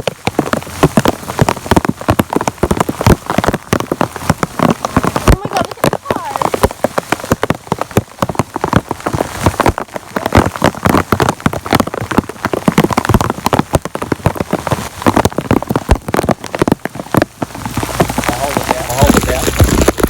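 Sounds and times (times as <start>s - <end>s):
rain drops hitting a surface: 0.0s - 20.0s.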